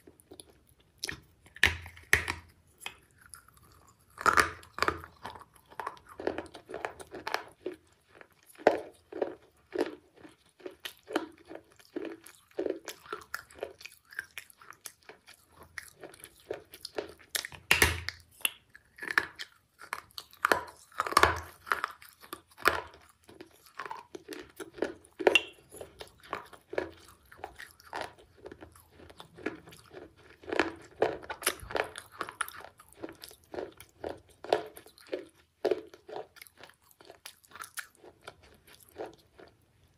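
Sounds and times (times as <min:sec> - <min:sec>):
crunchy chewing of clay: 0:00.0 - 0:39.9.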